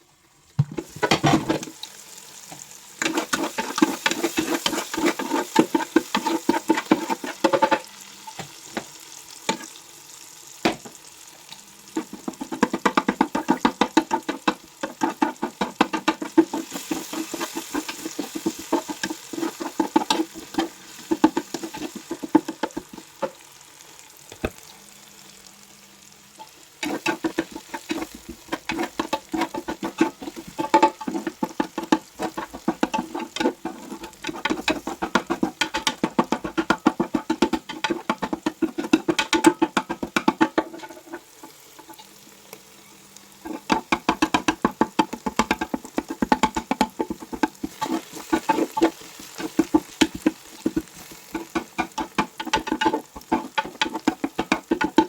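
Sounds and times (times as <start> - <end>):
rice sizzling in a pan: 0.0 - 55.0
spatula scraping a pan: 0.8 - 1.8, 3.0 - 8.9, 9.5 - 9.8, 11.9 - 23.5, 26.4 - 42.1, 42.9 - 55.0.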